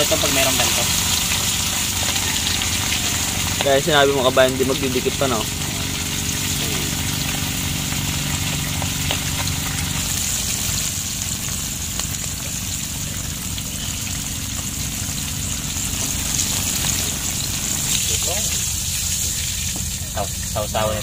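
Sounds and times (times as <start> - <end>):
fish frying in hot oil: 0.0 - 21.0
low hum: 0.7 - 21.0.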